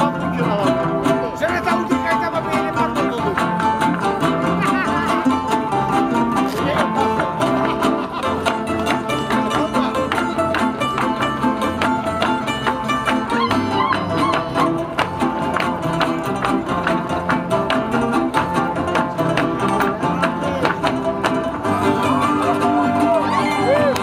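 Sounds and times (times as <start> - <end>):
bowed fiddle: 0.0 - 24.0
plucked strings: 0.0 - 24.0.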